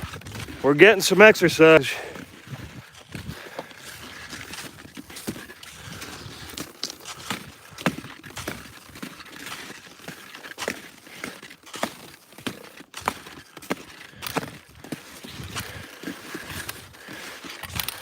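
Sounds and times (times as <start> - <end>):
skis crunching on snow: 0.0 - 18.0.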